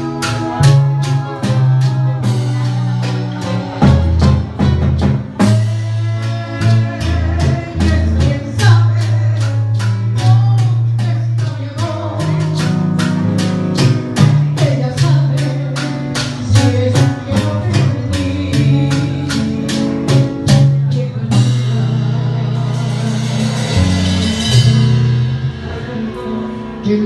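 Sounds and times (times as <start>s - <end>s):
live band music: 0.0s - 27.0s
person singing: 0.0s - 27.0s.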